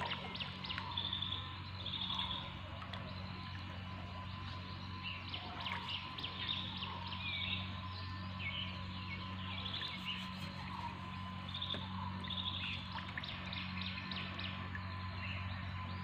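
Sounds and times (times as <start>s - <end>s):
birds chirping and trilling: 0.0s - 16.0s
steady low hum: 0.0s - 16.0s.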